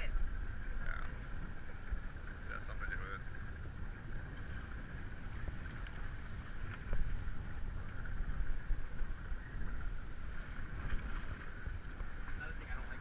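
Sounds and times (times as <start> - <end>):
boat rumble: 0.0 - 13.0
wind buffeting microphone: 0.0 - 13.0.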